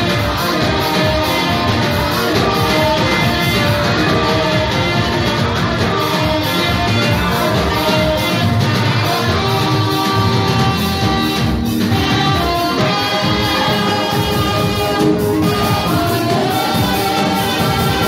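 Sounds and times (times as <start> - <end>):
live band music: 0.0 - 18.0
saxophone playing: 0.0 - 18.0.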